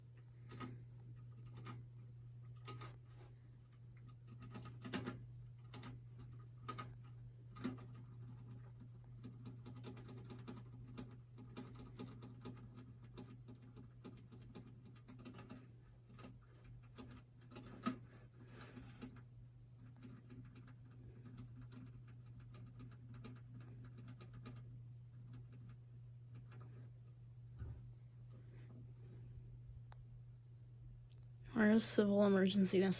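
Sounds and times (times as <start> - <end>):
steady low hum: 0.0 - 32.9
faint irregular clicks and taps: 0.1 - 28.8.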